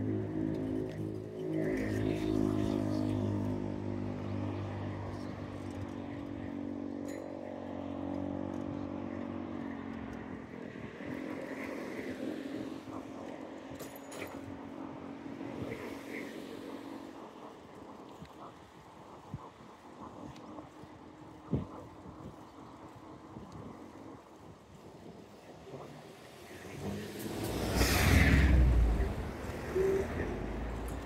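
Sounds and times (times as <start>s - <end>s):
vehicle engine humming: 0.0s - 31.0s
vehicles passing: 0.0s - 31.0s.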